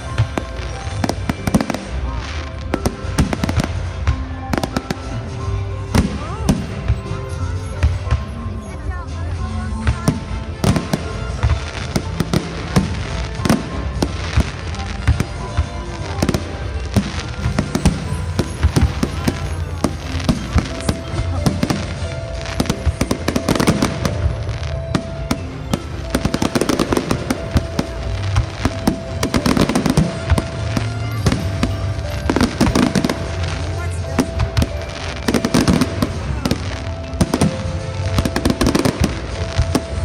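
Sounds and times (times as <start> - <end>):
fireworks bangs and crackles: 0.0 - 40.0
music with held notes: 0.0 - 40.0.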